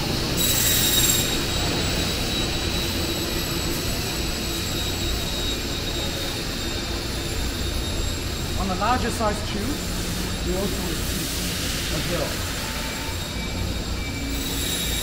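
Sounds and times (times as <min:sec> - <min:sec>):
factory machinery rumble and hiss: 0:00.0 - 0:15.0
high-pitched machine whines: 0:00.0 - 0:15.0.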